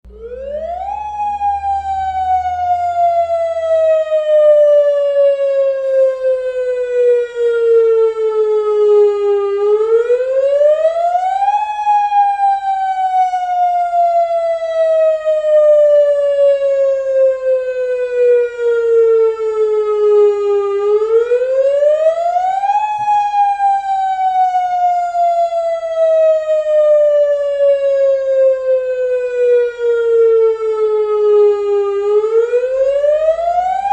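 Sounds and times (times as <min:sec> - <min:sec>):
emergency siren wailing: 0:00.0 - 0:33.9.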